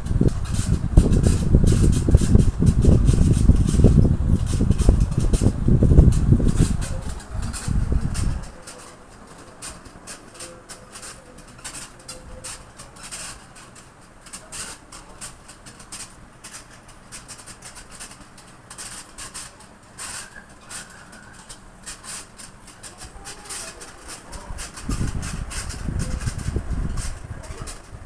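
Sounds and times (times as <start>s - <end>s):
ceiling fan clicking rattle: 0.0s - 28.0s
fan squeaks: 0.0s - 28.0s.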